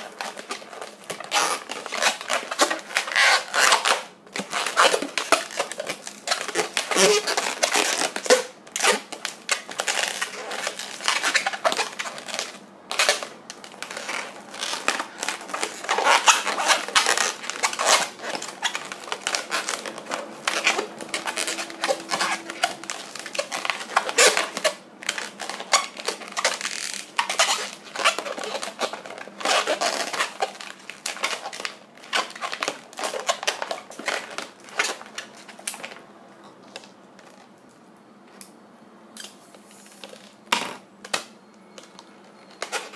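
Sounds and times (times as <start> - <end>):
balloon latex squeaking: 0.0 - 35.8, 39.2 - 42.9.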